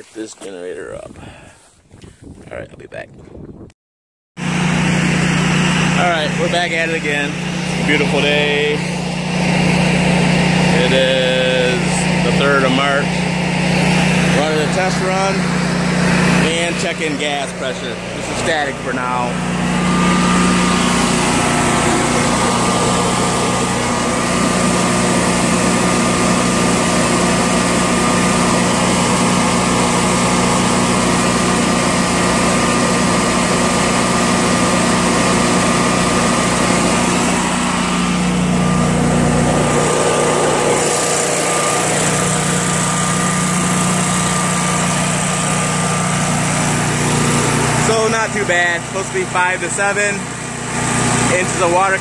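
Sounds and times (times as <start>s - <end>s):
generator engine running: 4.4s - 52.0s.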